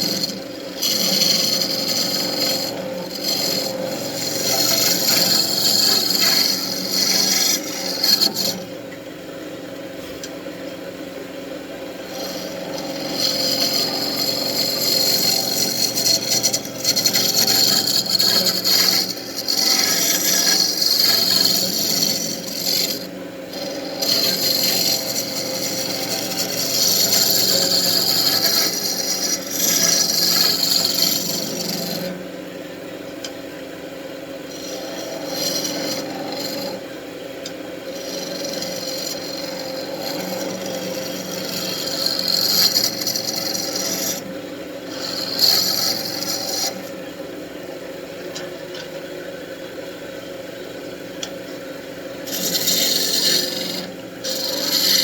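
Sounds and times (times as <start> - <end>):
turning tool scraping wood: 0.0 - 8.8, 11.9 - 32.2, 34.5 - 36.9, 37.8 - 47.1, 51.2 - 55.0
lathe motor hum: 0.0 - 55.0.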